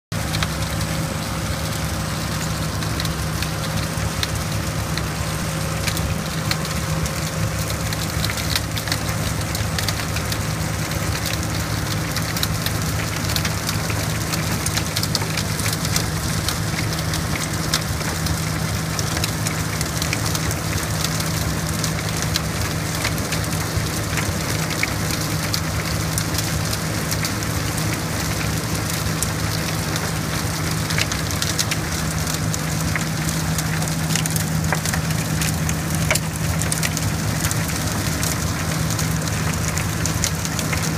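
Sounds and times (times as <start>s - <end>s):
tractor and rotor droning: 0.1s - 40.9s
debris crackling against machine: 0.2s - 40.9s.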